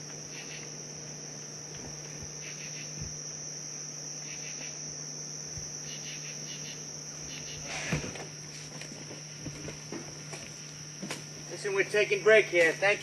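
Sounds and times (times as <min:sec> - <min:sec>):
crickets chirring: 0:00.0 - 0:13.0
low steady hum: 0:00.0 - 0:13.0.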